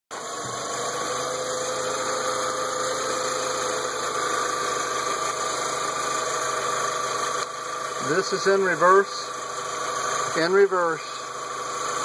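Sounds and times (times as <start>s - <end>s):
car idling with whine: 0.1s - 12.0s.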